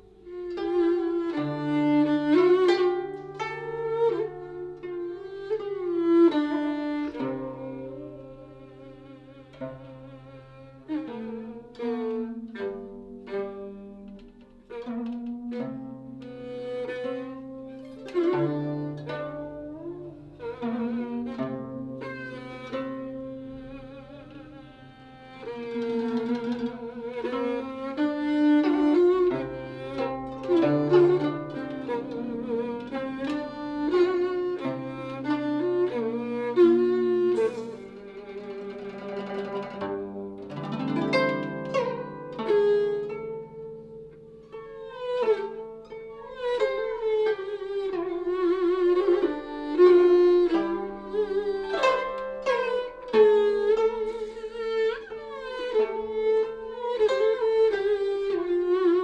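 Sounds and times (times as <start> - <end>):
fiddle playing mournful melody: 0.0 - 59.0
plucked zither notes: 0.0 - 59.0.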